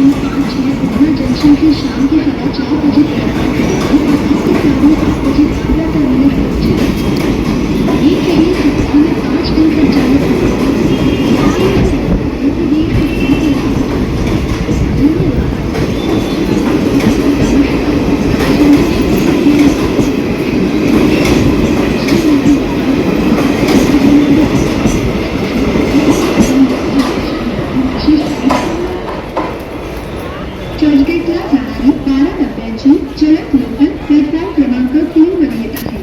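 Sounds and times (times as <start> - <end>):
train wheels clattering on rails: 0.0 - 31.8.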